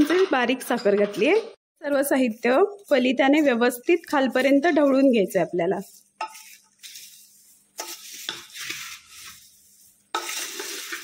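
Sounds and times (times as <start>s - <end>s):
dry flakes rustling when stirred: 1.8s - 11.0s.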